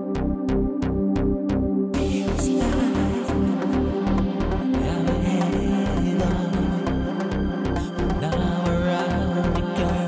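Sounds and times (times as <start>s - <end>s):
pulsing bass beat: 0.0s - 10.0s.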